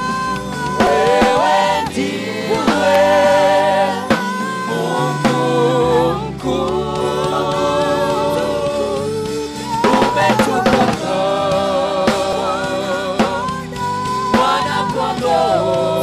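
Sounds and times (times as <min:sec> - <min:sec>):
bass: 0:00.0 - 0:16.0
drum kit: 0:00.0 - 0:16.0
keyboard chords: 0:00.0 - 0:16.0
people singing: 0:00.0 - 0:16.0.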